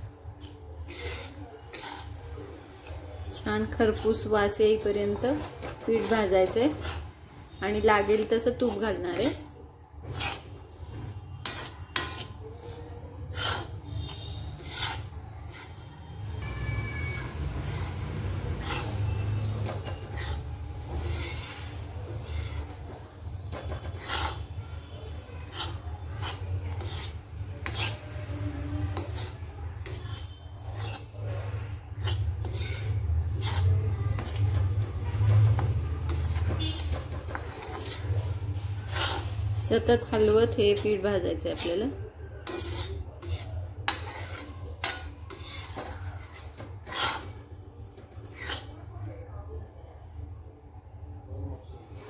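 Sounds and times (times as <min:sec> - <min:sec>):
spoon scraping iron pan: 0:00.3 - 0:02.4, 0:03.3 - 0:48.8.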